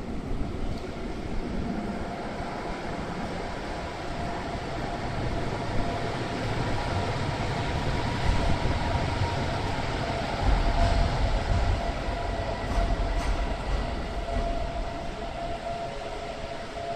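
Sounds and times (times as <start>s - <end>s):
tram rumbling: 0.0s - 16.9s.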